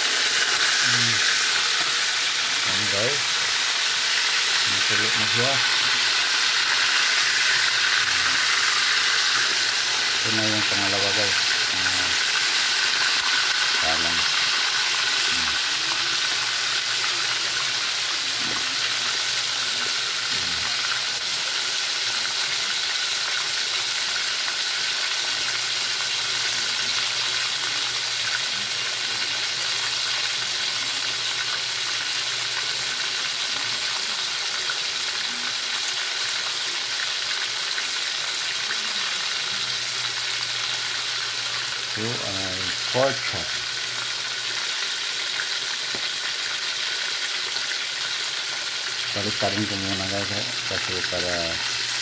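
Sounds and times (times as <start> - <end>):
pork chops sizzling in oil: 0.0 - 52.0.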